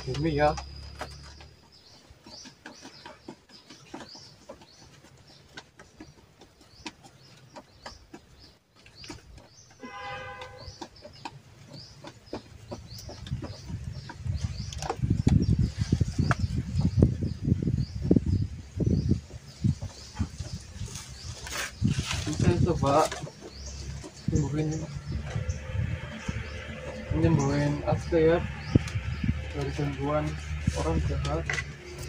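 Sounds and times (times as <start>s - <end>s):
small bird chirping: 0.0s - 32.0s.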